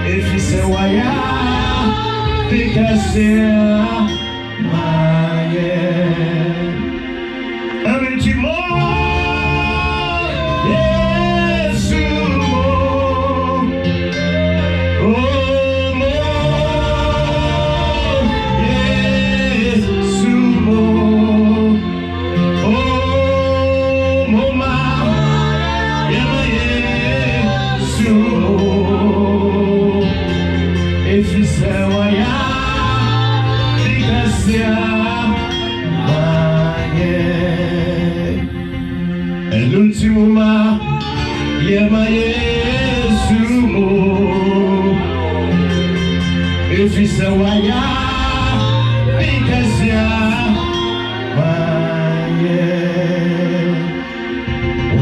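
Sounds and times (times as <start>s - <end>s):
person singing long notes: 0.0s - 54.2s
bass line: 0.0s - 55.0s
guitar accompaniment: 0.0s - 55.0s.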